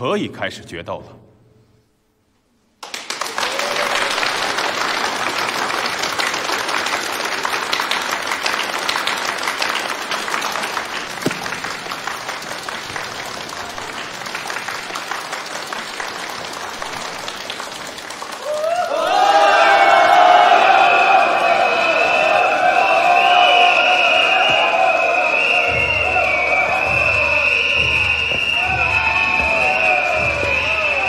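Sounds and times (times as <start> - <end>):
audience applauding: 2.8 - 31.0.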